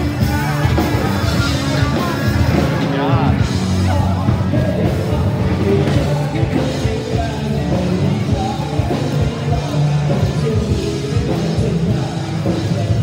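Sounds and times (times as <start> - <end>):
loud music with singing: 0.0 - 13.0.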